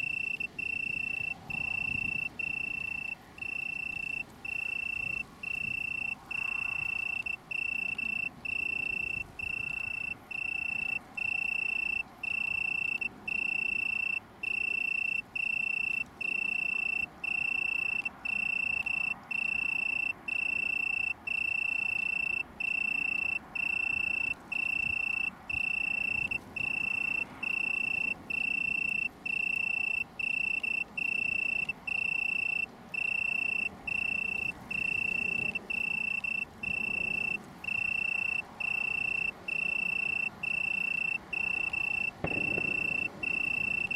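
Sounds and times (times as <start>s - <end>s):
cricket trilling: 0.0s - 43.9s.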